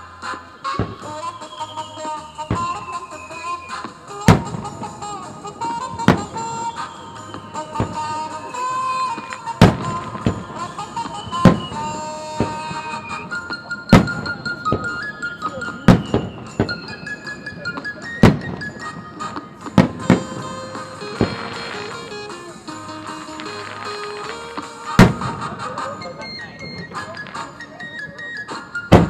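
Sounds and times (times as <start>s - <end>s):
melodic music: 0.0s - 29.0s
fireworks bangs: 0.6s - 27.5s.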